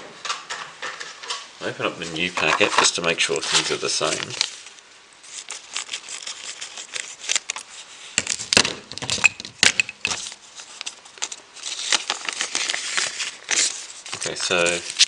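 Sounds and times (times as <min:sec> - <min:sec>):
plastic packet crinkling: 0:02.2 - 0:15.0.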